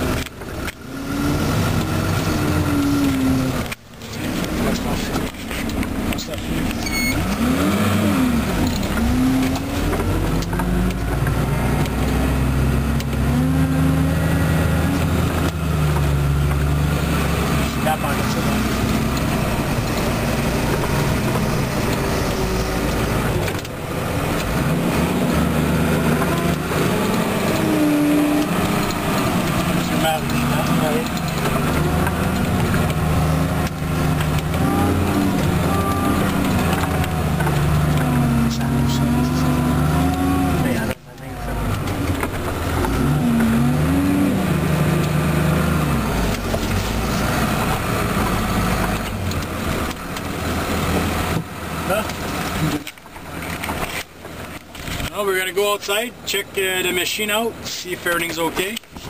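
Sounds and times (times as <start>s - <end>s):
snow groomer engine under load: 0.0s - 59.0s.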